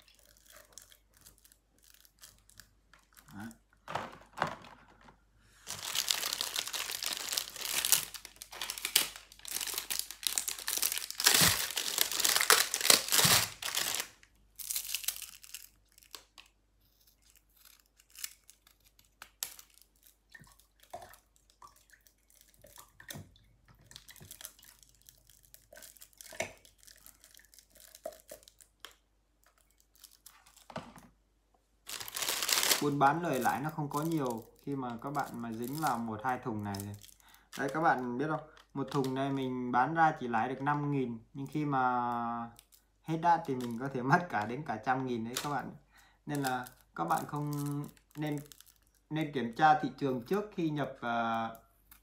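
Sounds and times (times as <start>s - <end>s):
plastic wrap crinkling and tearing: 0.0s - 23.0s, 23.8s - 31.0s, 31.8s - 39.5s, 41.6s - 45.7s, 46.3s - 49.6s.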